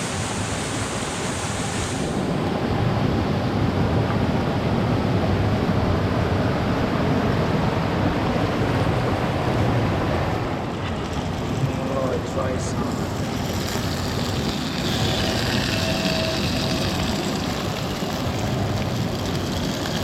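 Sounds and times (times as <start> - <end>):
heavy rain pouring: 0.0 - 3.6, 5.9 - 20.0.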